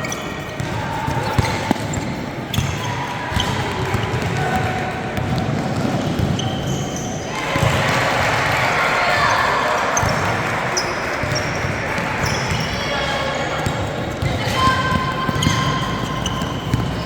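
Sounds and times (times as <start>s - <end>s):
shoe squeaks: 0.0s - 5.0s, 5.8s - 7.3s, 9.2s - 17.0s
basketball bouncing on court: 0.0s - 17.0s
murmur of crowd voices: 0.0s - 17.0s.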